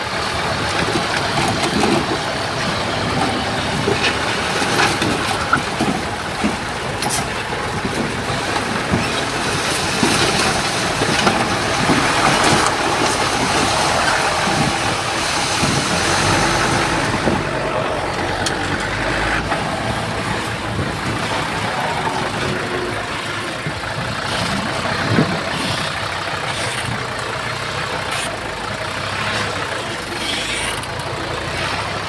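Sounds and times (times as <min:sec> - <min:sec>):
diesel machinery running: 0:00.0 - 0:32.0.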